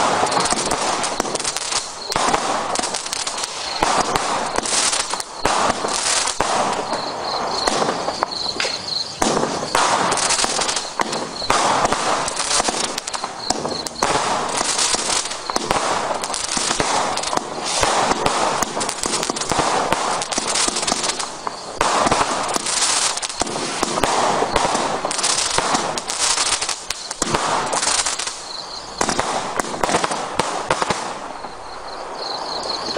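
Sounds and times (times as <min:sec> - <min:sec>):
fireworks crackle: 0:00.0 - 0:32.9
fireworks shots and bangs: 0:00.0 - 0:32.9.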